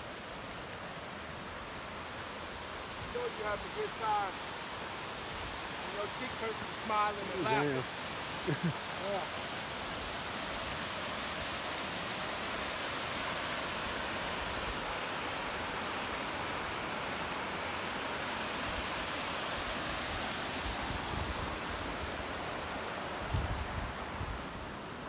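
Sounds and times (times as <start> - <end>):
creek rushing over boulders: 0.0 - 25.0.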